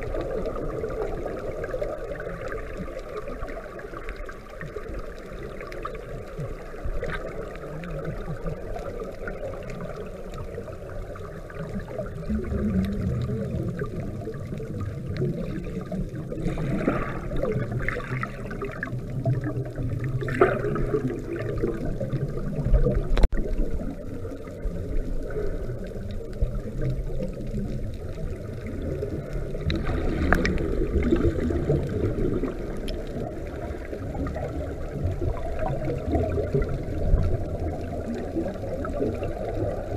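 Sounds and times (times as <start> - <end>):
bubbling of exhaled air: 0.0 - 39.9
muffled underwater noise: 0.0 - 39.9.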